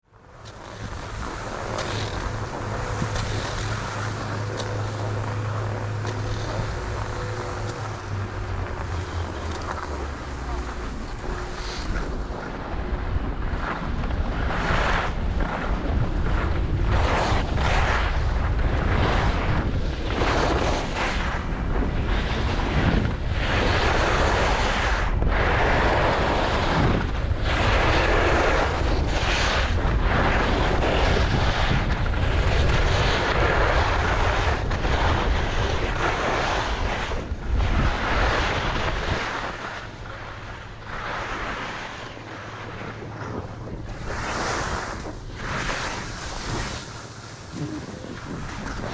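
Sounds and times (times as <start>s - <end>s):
wind buffeting microphone: 0.0s - 48.9s
skis scraping over snow: 0.1s - 48.9s.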